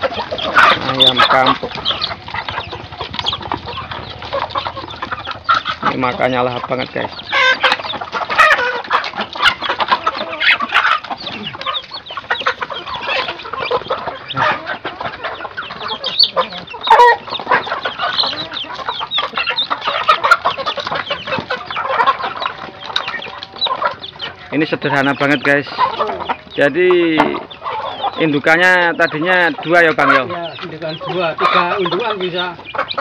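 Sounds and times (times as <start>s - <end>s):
beaks pecking at feed: 0.0s - 33.0s
chickens clucking: 0.0s - 33.0s.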